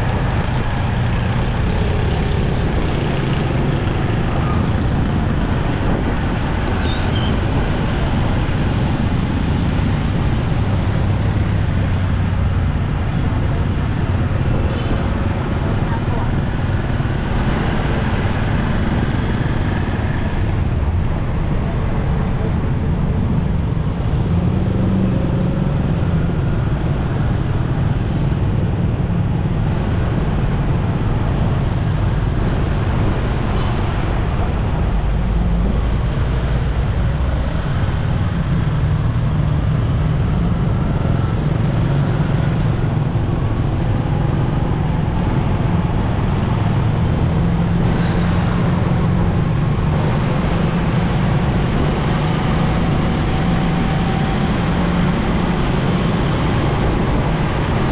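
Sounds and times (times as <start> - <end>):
surrounding vehicles: 0.0 - 57.9.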